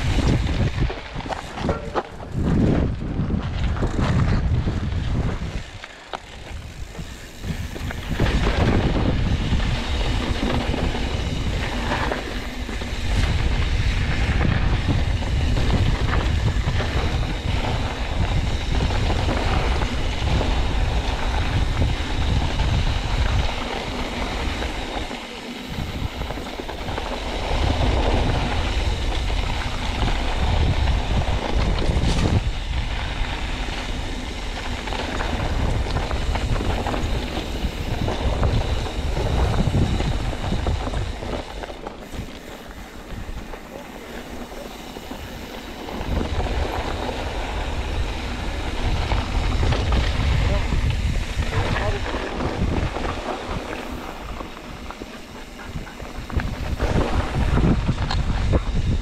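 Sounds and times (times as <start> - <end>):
bike rattles and clicks: 0.0 - 59.0
wind rushing over microphone: 0.0 - 59.0.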